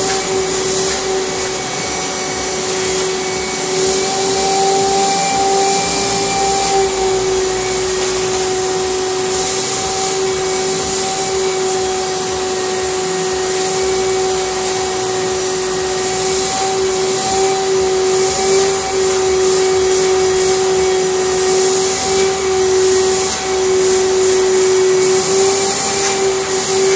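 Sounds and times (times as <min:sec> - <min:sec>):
vacuum cleaner running: 0:00.0 - 0:26.9.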